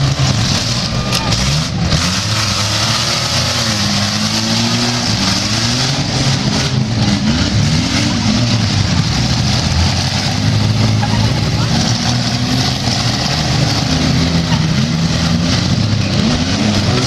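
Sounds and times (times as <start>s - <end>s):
engines revving hard: 0.0s - 17.0s.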